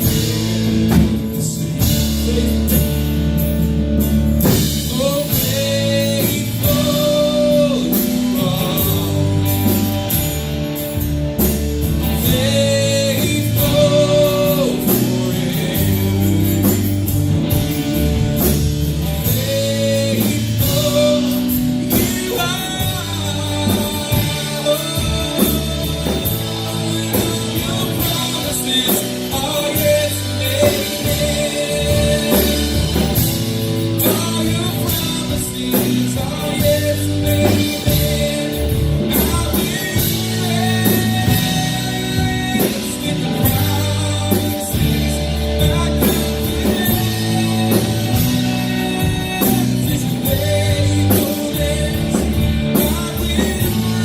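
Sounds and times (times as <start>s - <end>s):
person singing: 0.0s - 3.4s, 4.4s - 10.5s, 11.9s - 54.0s
live band playing: 0.0s - 54.0s.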